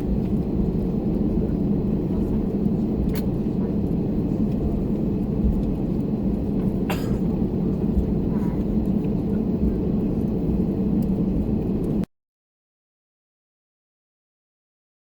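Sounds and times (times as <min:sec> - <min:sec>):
aircraft cabin low rumble: 0:00.0 - 0:12.1.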